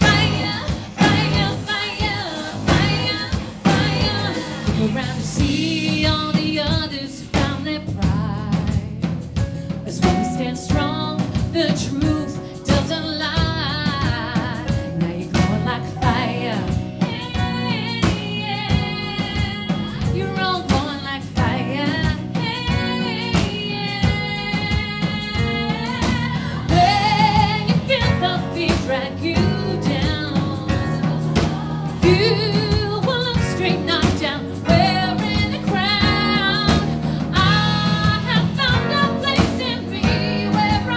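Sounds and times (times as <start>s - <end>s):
bass guitar: 0.0s - 40.9s
drum kit beat: 0.0s - 40.9s
woman singing: 0.0s - 40.9s.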